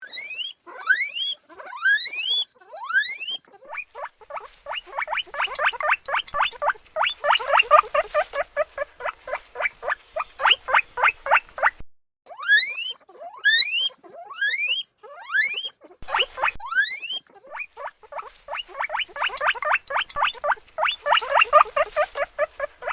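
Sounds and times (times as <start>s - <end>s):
guinea pig wheeking: 0.0s - 22.9s.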